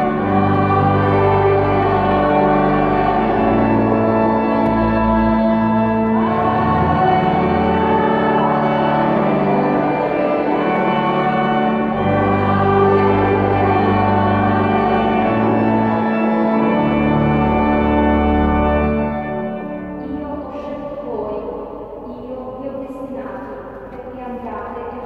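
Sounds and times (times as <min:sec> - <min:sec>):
deep organ pedal bass notes: 0:00.0 - 0:25.0
pipe organ chords: 0:00.0 - 0:25.0.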